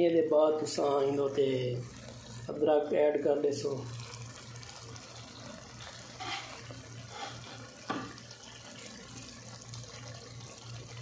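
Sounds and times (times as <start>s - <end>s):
food simmering with hiss: 0.0s - 11.0s.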